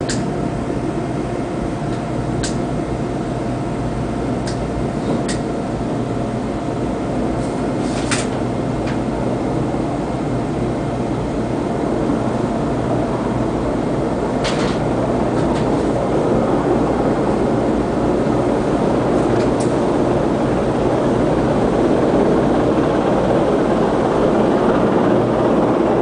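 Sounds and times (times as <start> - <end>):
helicopter rotor and engines rumbling: 0.0 - 26.0.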